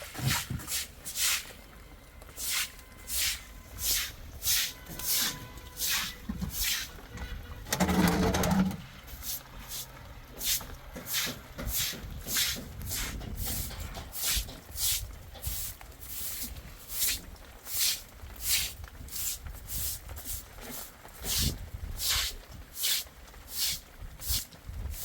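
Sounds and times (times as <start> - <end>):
scraping strokes: 2.4 - 25.0.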